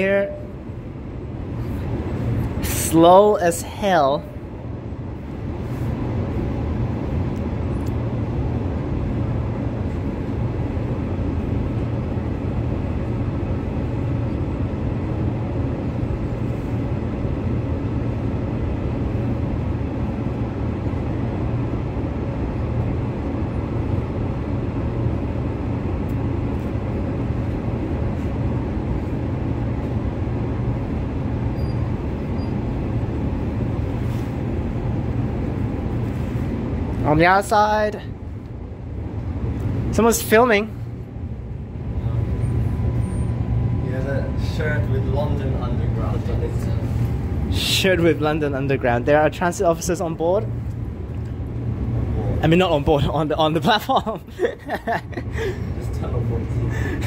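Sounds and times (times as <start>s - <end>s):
train cabin hum and rolling noise: 0.0s - 57.0s.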